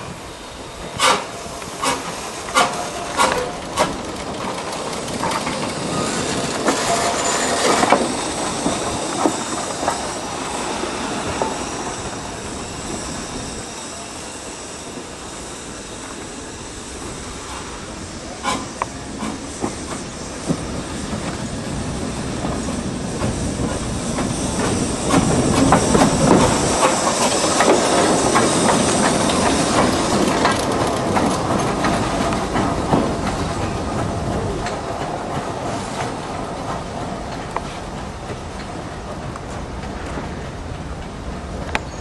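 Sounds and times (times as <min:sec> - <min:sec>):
hiss of steam: 0:00.0 - 0:42.0
train wheels clanking over rail joints: 0:00.0 - 0:42.0.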